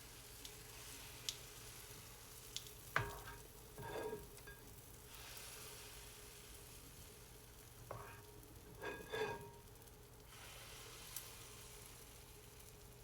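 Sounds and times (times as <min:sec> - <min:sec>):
batter sizzling in waffle iron: 0:00.0 - 0:13.0.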